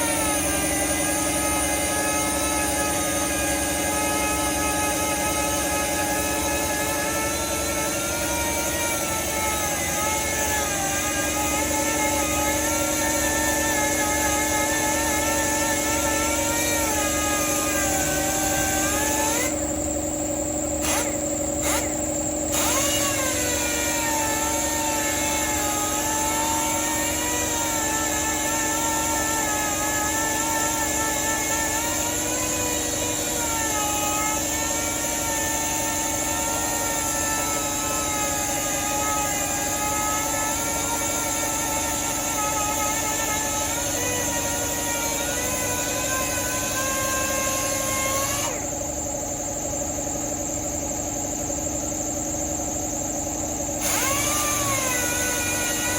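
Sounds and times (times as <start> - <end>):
power sander whining: 0.0 - 51.0, 53.0 - 55.9
steady hum: 0.0 - 55.9.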